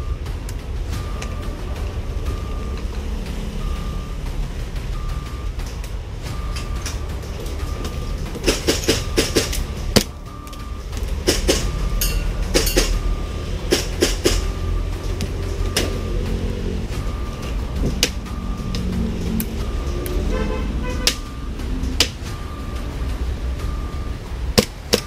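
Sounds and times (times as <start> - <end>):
vehicle reversing beeper: 0.0 - 24.5.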